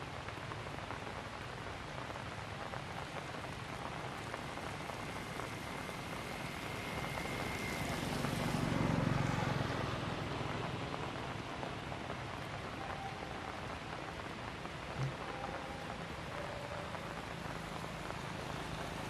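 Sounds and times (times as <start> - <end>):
light rain hissing: 0.0 - 19.0.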